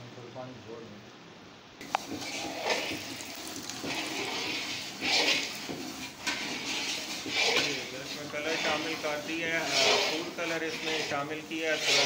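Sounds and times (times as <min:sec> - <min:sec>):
chutney bubbling and hissing: 0:01.8 - 0:12.0.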